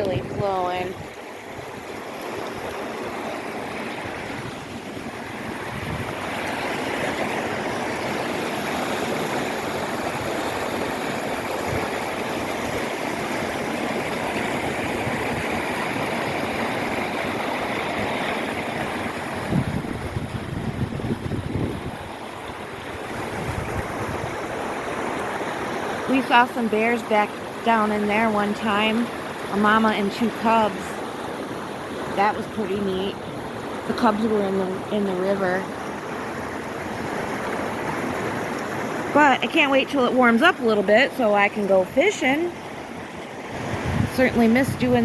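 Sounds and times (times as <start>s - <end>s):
creek water rushing: 0.0s - 45.0s
wind buffeting microphone: 0.0s - 45.0s.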